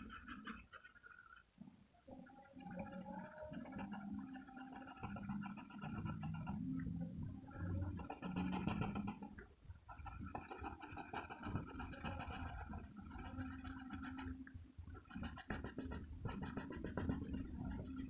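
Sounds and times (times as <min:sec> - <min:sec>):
pencil scratching on paper: 0:00.0 - 0:01.4, 0:02.7 - 0:06.6, 0:07.6 - 0:18.0.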